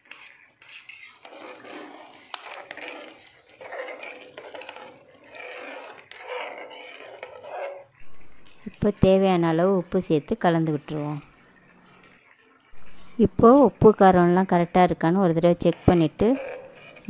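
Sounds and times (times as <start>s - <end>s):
liquid sloshing in pot: 0.0s - 17.0s.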